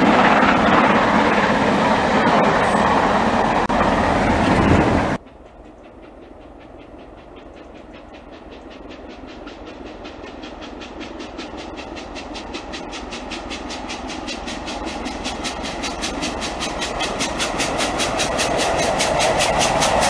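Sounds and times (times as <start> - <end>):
steam locomotive exhaust chuffs: 0.0 - 20.0
train running: 0.0 - 20.0.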